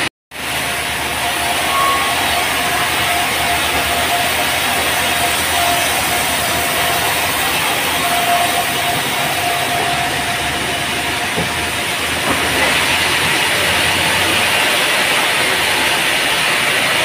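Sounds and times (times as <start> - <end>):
band sawmill sawing log: 0.0 - 17.0
steady whine: 0.4 - 17.0.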